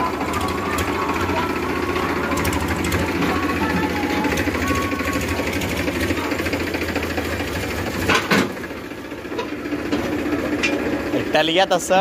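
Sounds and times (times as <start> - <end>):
tractor diesel engine chugging: 0.0 - 12.0.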